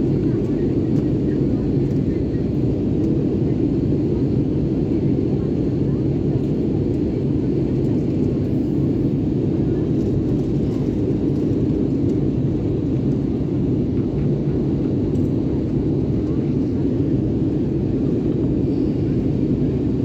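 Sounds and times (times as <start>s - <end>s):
airliner cabin engine roar: 0.0s - 20.0s.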